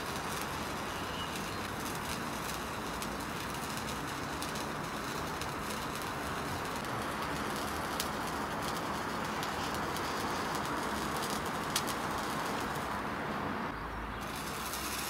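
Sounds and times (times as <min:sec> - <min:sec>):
sparkler fizzing and crackling: 0:00.0 - 0:13.3, 0:14.2 - 0:15.0.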